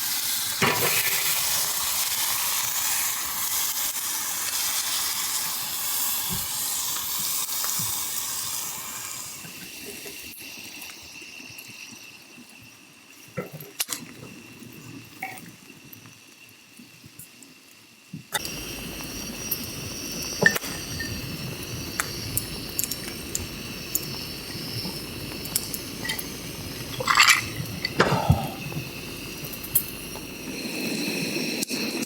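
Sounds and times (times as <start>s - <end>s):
food sizzling on a pan: 0.0s - 32.0s.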